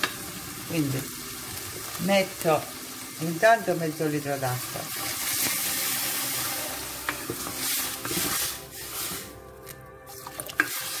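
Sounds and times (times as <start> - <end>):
water hissing in hot pot: 0.0 - 9.4, 10.1 - 11.0.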